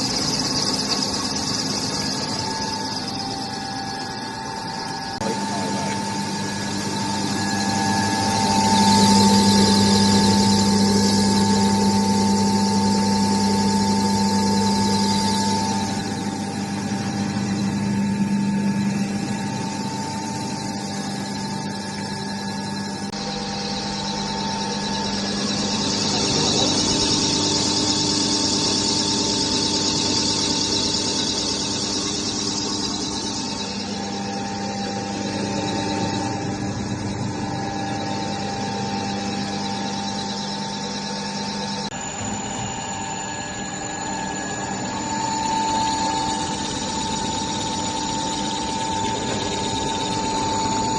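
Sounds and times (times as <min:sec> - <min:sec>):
extruder machine motor hum: 0:00.0 - 0:50.9.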